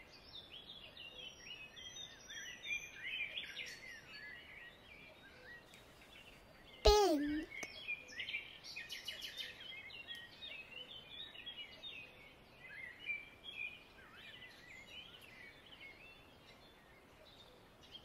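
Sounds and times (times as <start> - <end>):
faint birdsong chirps: 0.0 - 18.0.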